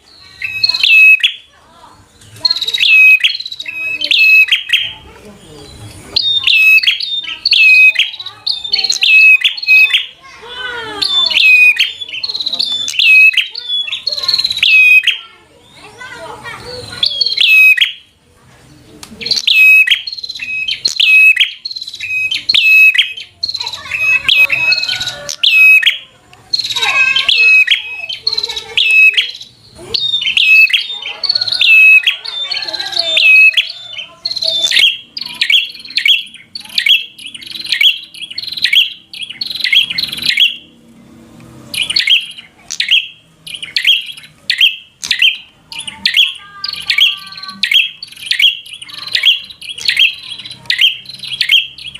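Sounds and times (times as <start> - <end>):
bird singing sharp high notes: 0.0 - 5.0, 5.7 - 18.2, 19.2 - 40.8, 41.6 - 51.9.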